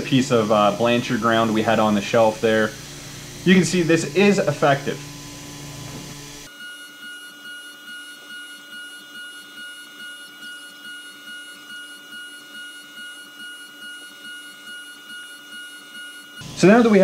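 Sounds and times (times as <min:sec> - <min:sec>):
milling machine cutting steel whine: 0:00.0 - 0:17.0.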